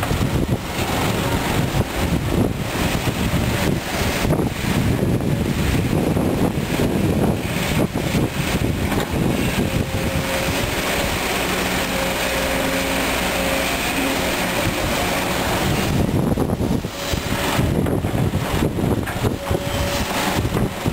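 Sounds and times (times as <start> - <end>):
excavator diesel engine under load: 0.0 - 20.9
hydraulic whine: 0.0 - 20.9.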